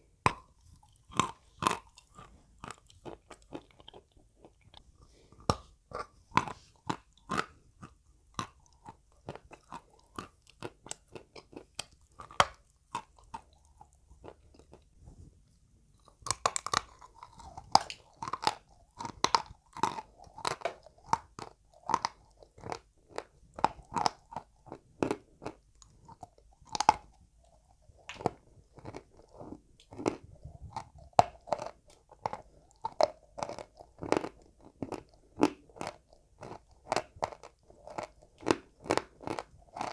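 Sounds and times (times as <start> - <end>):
chalk crunching being chewed: 0.3 - 15.0, 15.9 - 39.9.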